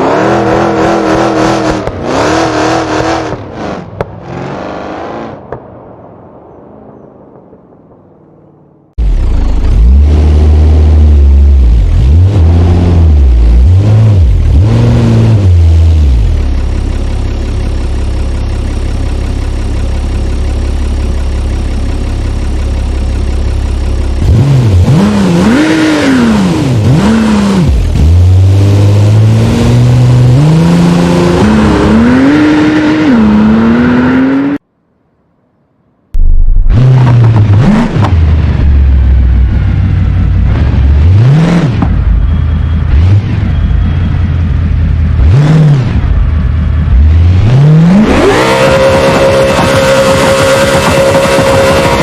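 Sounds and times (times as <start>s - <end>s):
car engines revving: 0.0s - 5.8s, 9.0s - 34.6s, 36.5s - 52.0s
low engine drone: 0.0s - 35.1s, 36.0s - 52.0s.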